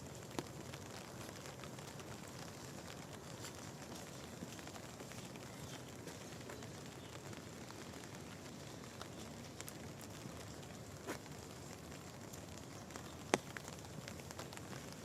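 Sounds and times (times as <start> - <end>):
raindrops ticking close by: 0.0 - 15.0
steady rain falling: 0.0 - 15.0.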